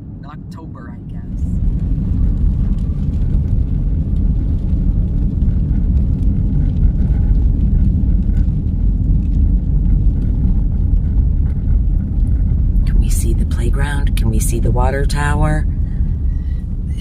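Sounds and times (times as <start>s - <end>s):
car driving through snow: 1.6s - 17.0s.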